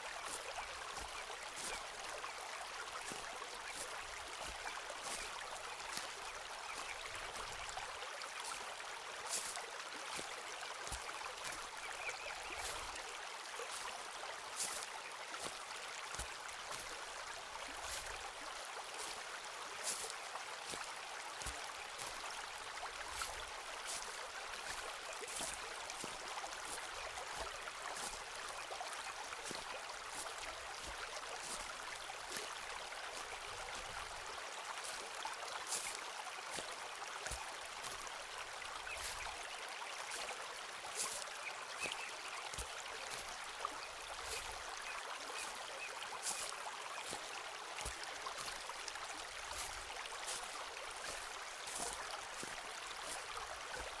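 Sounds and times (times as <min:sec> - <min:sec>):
stream flowing: 0:00.0 - 0:54.0
footsteps crunching on path: 0:00.2 - 0:02.2, 0:02.9 - 0:07.8, 0:08.4 - 0:54.0.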